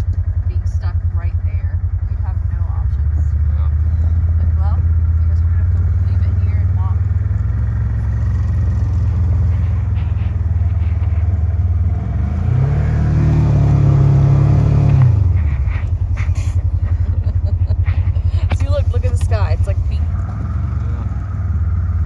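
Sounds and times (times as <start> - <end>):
vehicle engine revving and idling: 0.0 - 22.0.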